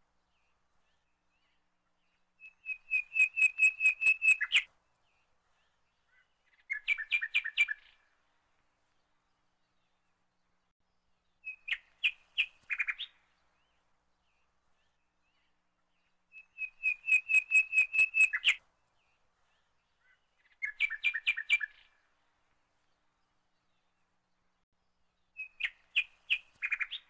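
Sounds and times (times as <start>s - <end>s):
bird chirping: 0.3s - 8.2s, 11.2s - 27.0s.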